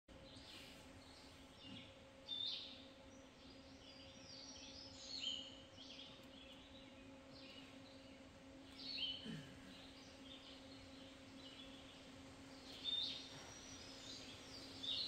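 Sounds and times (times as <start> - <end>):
faint steady hum: 0.1 - 15.0
songbirds chirping: 0.1 - 15.0.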